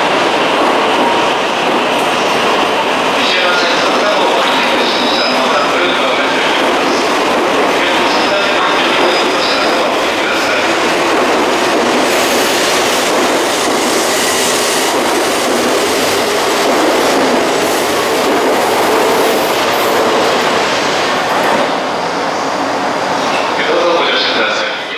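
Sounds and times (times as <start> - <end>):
high-speed train rushing past: 0.0 - 24.9.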